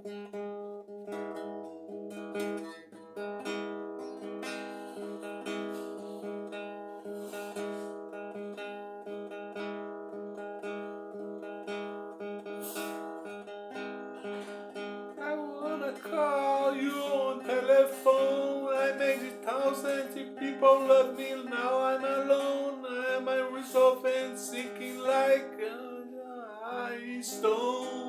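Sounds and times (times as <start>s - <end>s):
acoustic guitar plucked chords: 0.0s - 28.0s.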